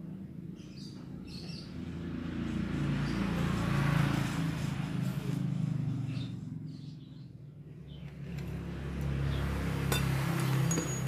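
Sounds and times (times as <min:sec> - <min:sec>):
motor vehicle passing: 0:00.1 - 0:11.0.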